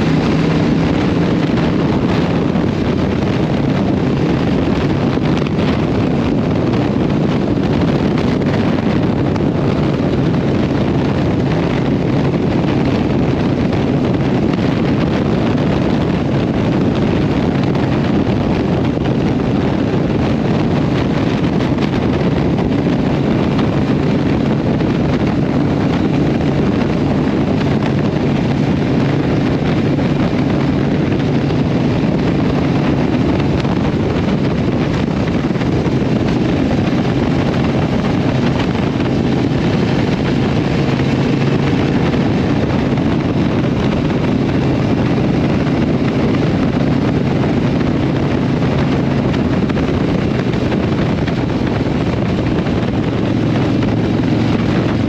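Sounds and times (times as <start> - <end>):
motorcycle engine cruising: 0.0 - 55.0
wind rushing over microphone: 0.0 - 55.0.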